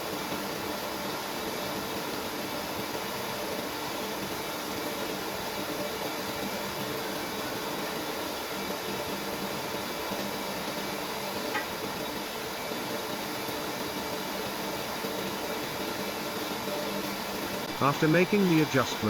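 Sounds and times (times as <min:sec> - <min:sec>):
water filter pump humming: 0:00.0 - 0:19.0.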